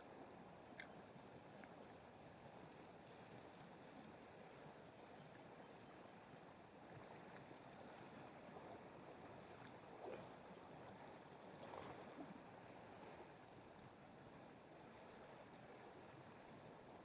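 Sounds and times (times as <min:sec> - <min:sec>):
faint river water rushing: 0:00.0 - 0:17.0.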